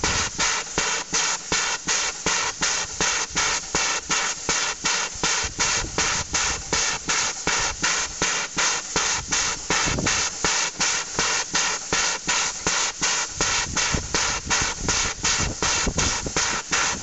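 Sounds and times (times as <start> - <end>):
steam hissing: 0.0 - 17.0
steam locomotive exhaust puffs: 0.0 - 17.0.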